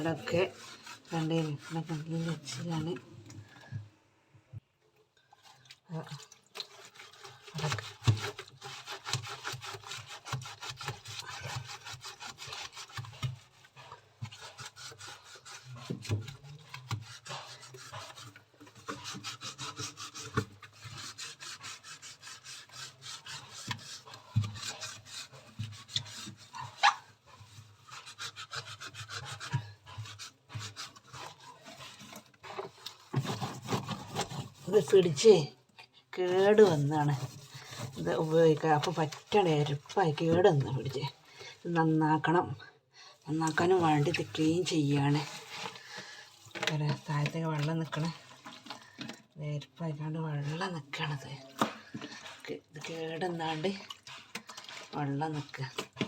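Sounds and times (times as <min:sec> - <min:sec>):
scrubbing inside a refrigerator: 0:00.0 - 0:56.0.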